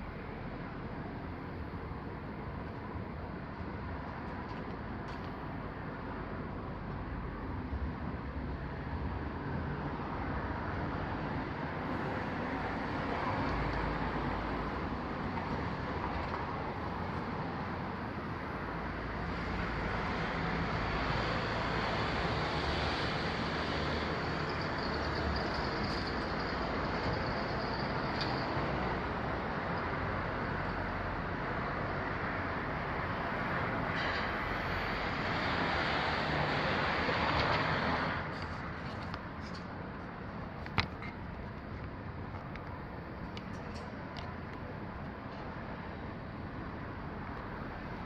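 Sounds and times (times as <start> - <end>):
road traffic hum: 0.0 - 48.0.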